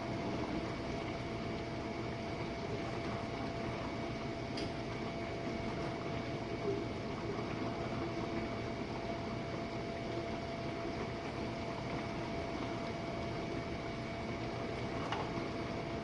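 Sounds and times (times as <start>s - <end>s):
dishwasher humming and hissing: 0.0s - 16.0s.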